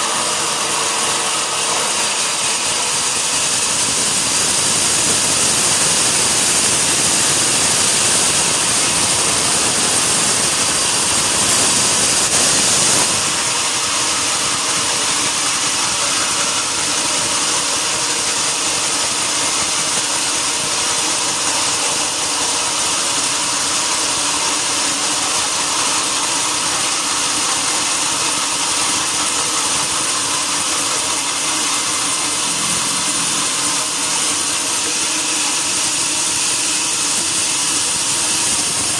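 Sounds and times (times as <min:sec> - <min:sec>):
sawmill saw running: 0:00.0 - 0:38.9
steady machine hum: 0:00.0 - 0:38.9.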